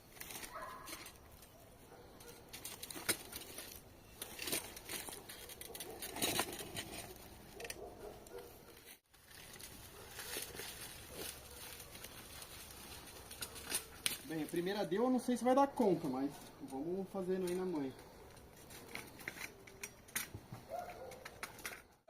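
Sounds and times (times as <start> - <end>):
stones crunching in hand cart: 0.0 - 22.0.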